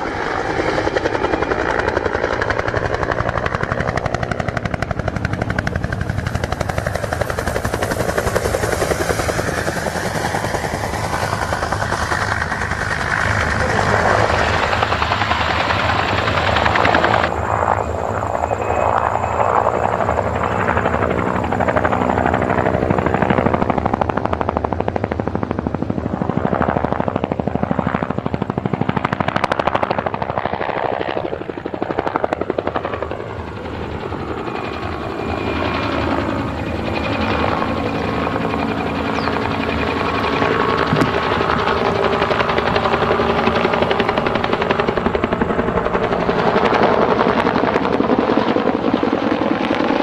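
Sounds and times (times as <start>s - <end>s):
helicopter engine hum: 0.0s - 50.0s
helicopter rotor blades beating: 0.0s - 50.0s.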